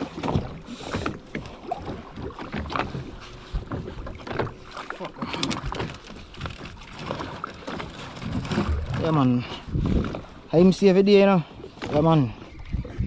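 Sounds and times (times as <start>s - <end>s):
knocks and splashes at hull: 0.0s - 10.5s, 11.5s - 13.0s
water slapping boat side: 0.0s - 13.0s.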